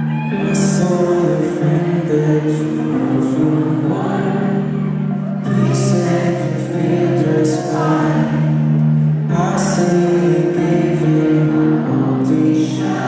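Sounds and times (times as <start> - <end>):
man singing slow song: 0.0 - 13.0.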